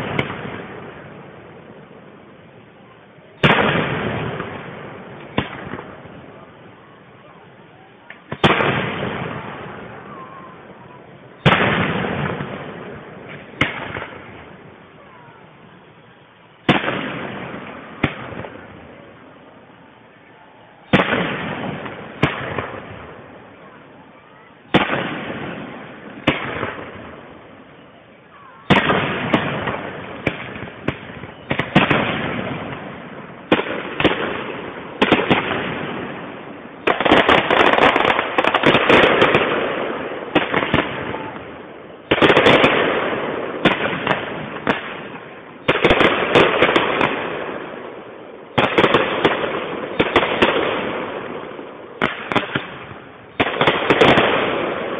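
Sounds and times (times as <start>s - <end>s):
fireworks bursting with bangs: 0.0s - 54.9s.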